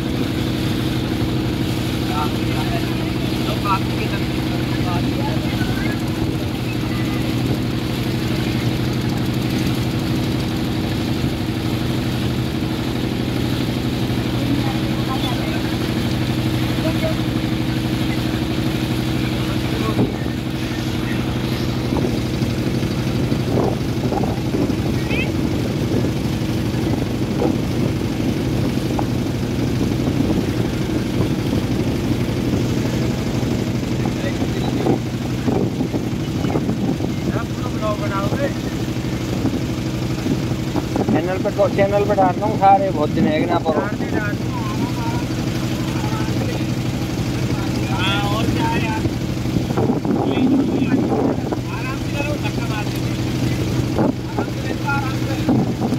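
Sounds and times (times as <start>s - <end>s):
motorboat engine running: 0.0s - 55.9s.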